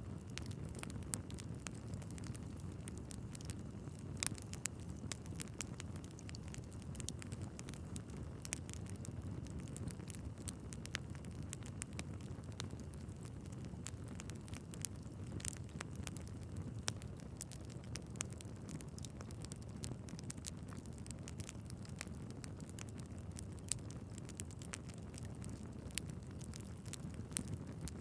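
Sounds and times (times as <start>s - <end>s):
fire popping: 0.0s - 28.0s
low rumble of flame: 0.0s - 28.0s
wood fire crackling: 0.0s - 28.0s.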